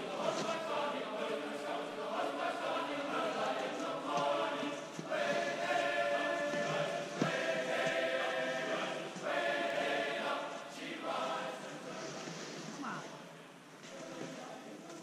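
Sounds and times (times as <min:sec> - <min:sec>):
choir singing held phrases: 0:00.0 - 0:12.6.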